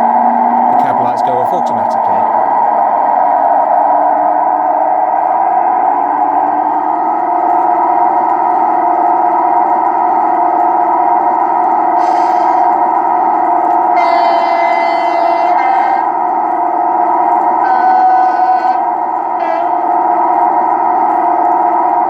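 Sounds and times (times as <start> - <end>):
electronic locomotive engine drone: 0.0 - 22.0.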